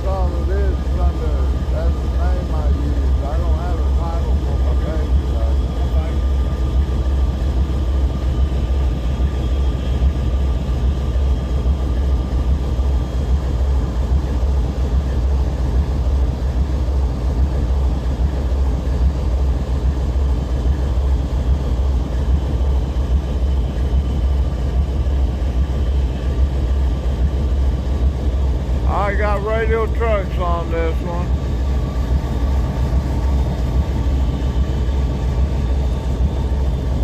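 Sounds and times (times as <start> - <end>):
locomotive idling: 0.0 - 37.0.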